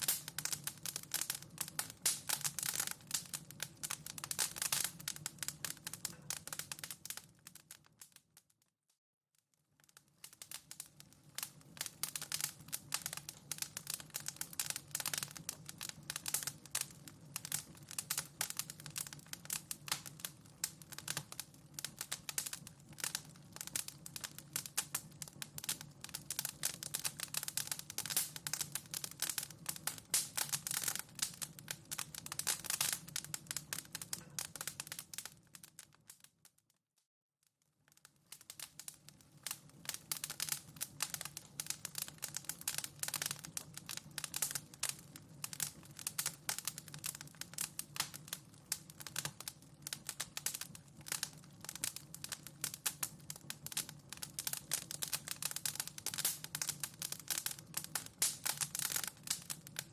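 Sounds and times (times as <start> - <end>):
wood fire crackling: 0.0 - 8.6, 9.7 - 36.6, 37.9 - 59.9.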